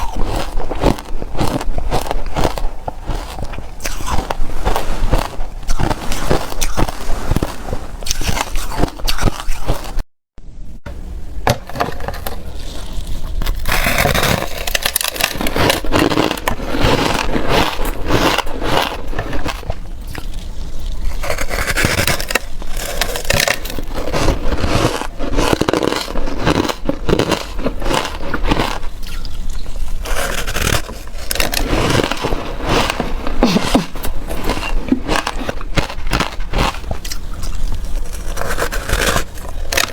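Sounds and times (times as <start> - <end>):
ice being chewed: 0.0 - 10.0, 12.2 - 39.9.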